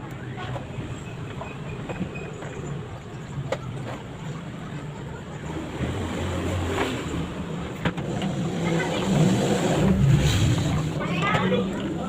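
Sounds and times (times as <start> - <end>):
water churning in washing machine: 0.0 - 12.0.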